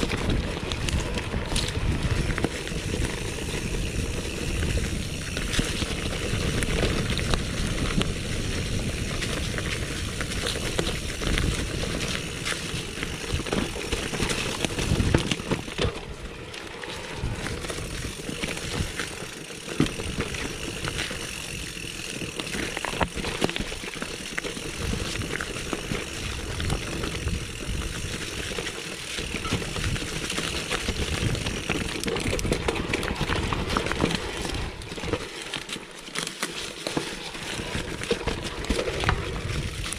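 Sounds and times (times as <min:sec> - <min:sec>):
bike chain and frame rattling: 0:00.0 - 0:39.9
bike tyres rolling over dirt: 0:00.0 - 0:39.9.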